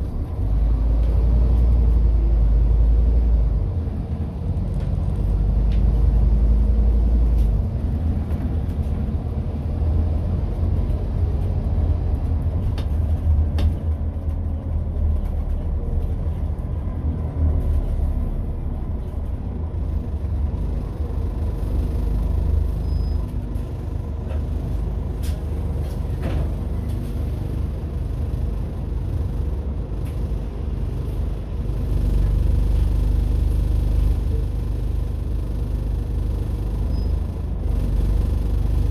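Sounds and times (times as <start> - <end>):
diesel bus engine rumble: 0.0 - 38.9.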